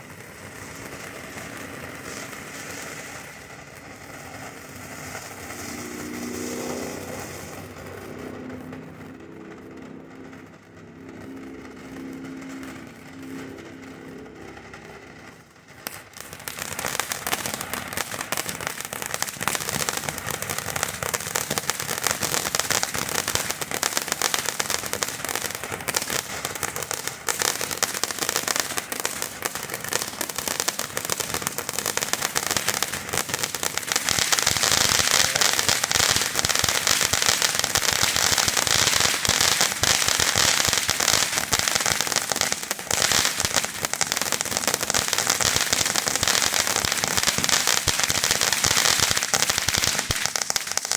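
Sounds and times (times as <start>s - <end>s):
rapid pops and hiss: 0.0s - 9.2s, 14.7s - 50.9s
firework fountain crackling: 0.0s - 50.9s.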